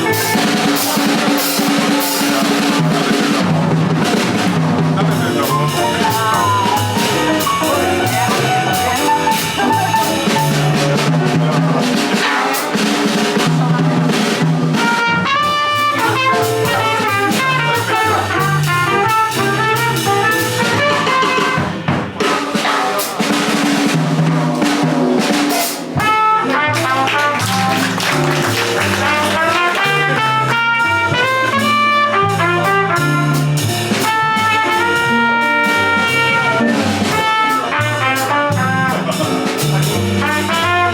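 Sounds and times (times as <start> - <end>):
horn playing melody: 0.0 - 4.4, 5.0 - 11.3, 14.7 - 22.3, 26.0 - 40.9
bass: 0.0 - 40.9
drum kit: 0.0 - 40.9.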